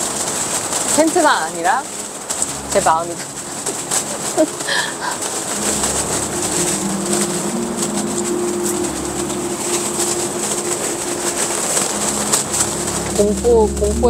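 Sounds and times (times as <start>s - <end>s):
low rumbling wind gusts: 0.0s - 14.0s
strong wind howling against tent: 0.0s - 14.0s.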